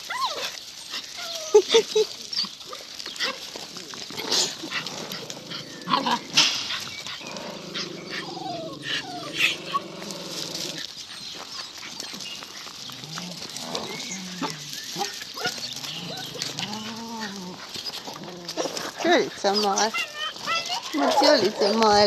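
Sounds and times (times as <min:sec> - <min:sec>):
puppy whining: 0:00.0 - 0:03.5, 0:04.1 - 0:22.0
gravel crunching under paws: 0:00.0 - 0:22.0
puppies yipping: 0:00.0 - 0:22.0
puppy play growl: 0:02.7 - 0:22.0.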